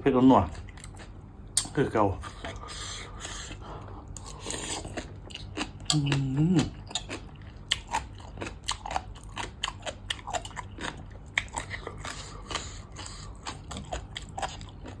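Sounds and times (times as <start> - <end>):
person chewing and crunching food: 0.4 - 15.0.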